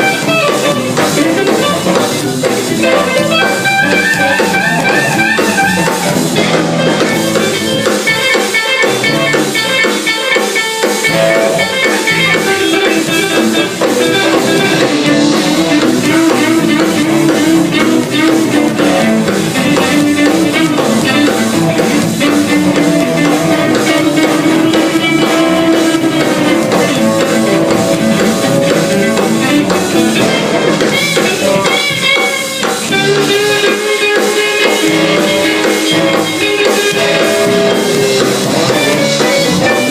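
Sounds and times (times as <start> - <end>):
drum kit with cymbals: 0.0 - 39.9
guitar melodic lines: 0.0 - 39.9.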